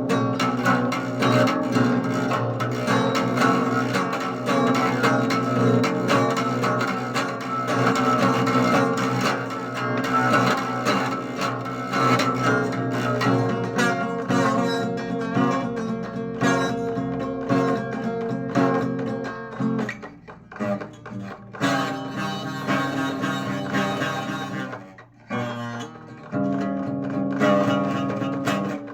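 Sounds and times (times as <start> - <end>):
plucked and strummed guitar: 0.0 - 28.9.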